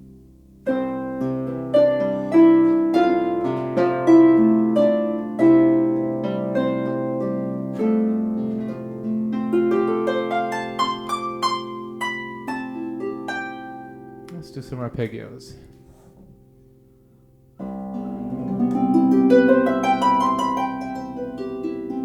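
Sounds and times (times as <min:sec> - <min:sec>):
harp plucked melody: 0:00.0 - 0:16.8, 0:17.6 - 0:22.0.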